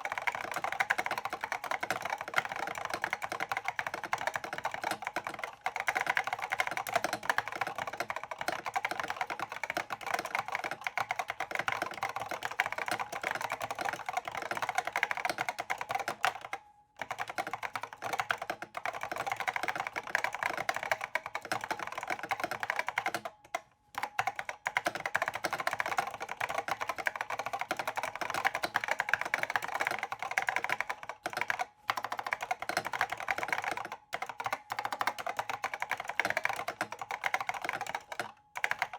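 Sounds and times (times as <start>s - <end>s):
keyboard typing clacks: 0.0s - 38.9s.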